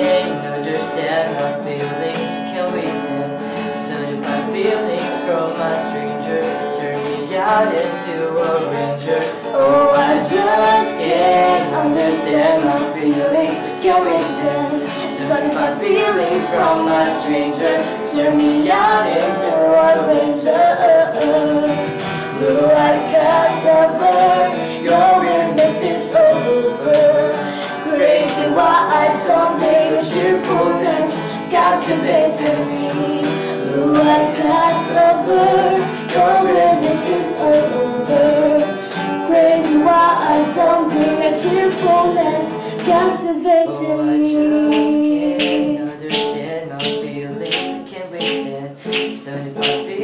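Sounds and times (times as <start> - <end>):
guitar: 0.0 - 50.0
woman singing: 0.0 - 50.0.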